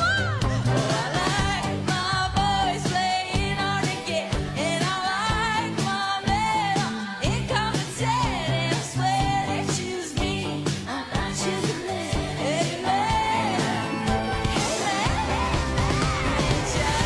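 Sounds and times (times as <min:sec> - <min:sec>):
bass line and beat: 0:00.0 - 0:17.0
woman singing pop song: 0:00.0 - 0:17.0.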